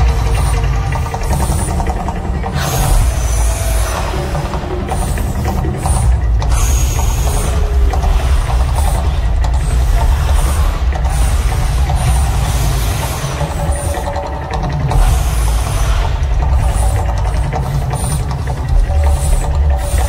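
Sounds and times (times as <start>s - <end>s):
deep steady rumble: 0.0s - 20.0s
gas flame jets whooshing: 0.0s - 20.0s.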